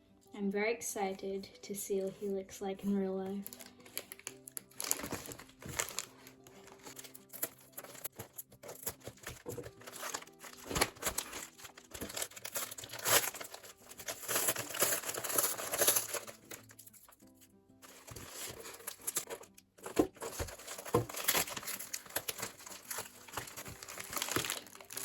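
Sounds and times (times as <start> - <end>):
cardboard tearing: 3.4 - 16.9, 17.9 - 25.0
packaging crinkling: 3.4 - 17.2, 17.8 - 25.0.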